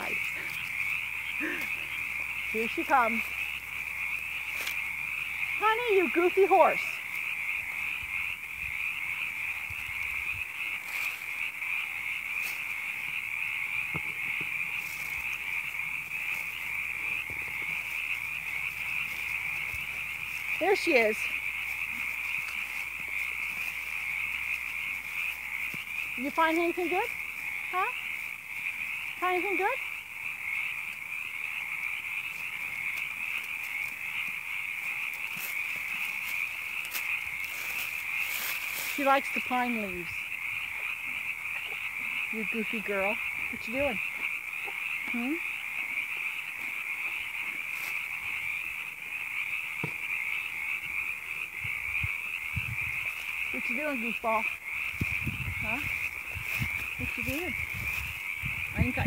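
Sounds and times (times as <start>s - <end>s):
chorus of frogs calling: 0.0s - 59.0s.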